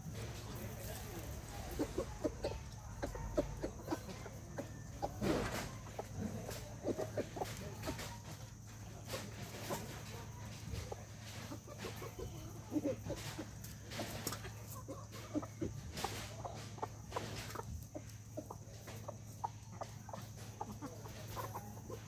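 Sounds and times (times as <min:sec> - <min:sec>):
beaks pecking feed bowls: 0:00.0 - 0:22.0
chickens clucking: 0:00.0 - 0:22.0.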